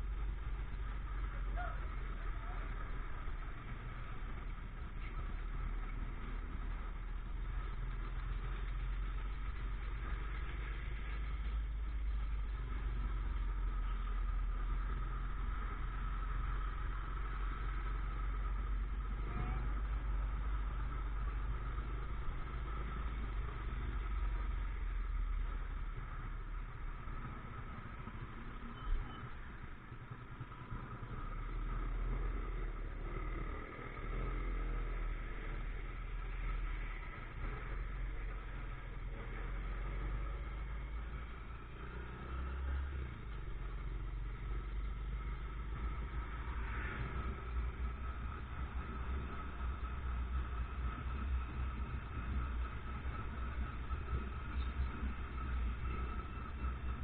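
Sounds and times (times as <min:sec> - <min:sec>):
deep rumble of road noise: 0:00.0 - 0:57.0
motorcycle engine running: 0:00.0 - 0:57.0.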